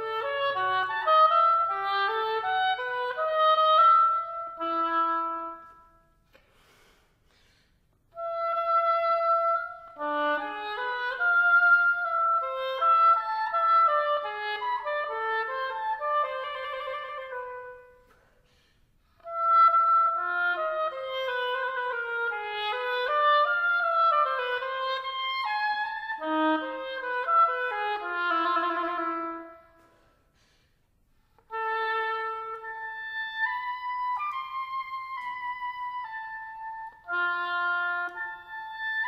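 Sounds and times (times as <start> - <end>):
oboe playing slow melody: 0.0 - 6.2, 8.1 - 18.2, 19.2 - 30.0, 31.4 - 39.0.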